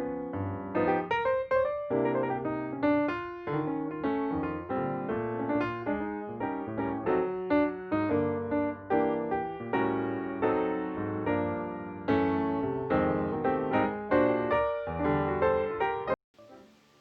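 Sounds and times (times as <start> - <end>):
gentle piano melody: 0.0 - 16.9.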